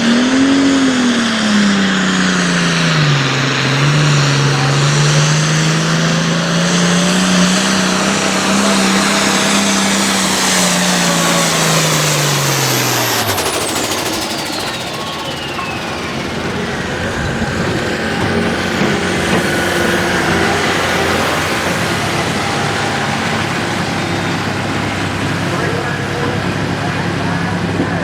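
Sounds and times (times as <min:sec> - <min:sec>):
high whine winding down: 0:00.0 - 0:28.0
tractor diesel engine at full throttle: 0:00.0 - 0:28.0.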